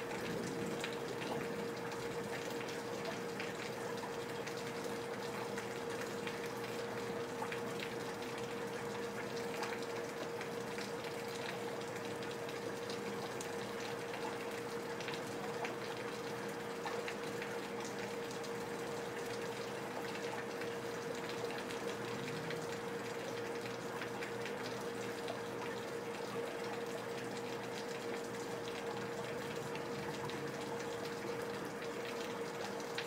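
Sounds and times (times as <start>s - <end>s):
drips ticking: 0.0s - 33.0s
faint steady hum: 0.0s - 33.0s
steady rain: 0.0s - 33.0s
water running off gutters: 0.0s - 33.0s.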